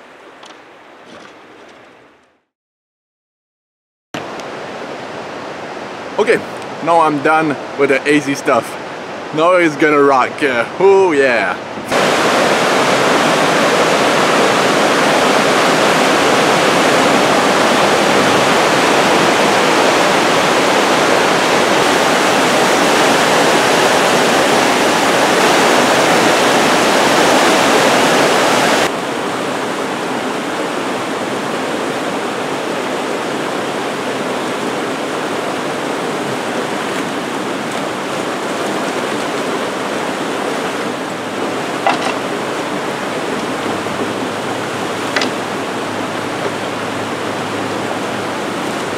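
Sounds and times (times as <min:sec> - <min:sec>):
river rapids rushing: 0:04.2 - 0:48.9.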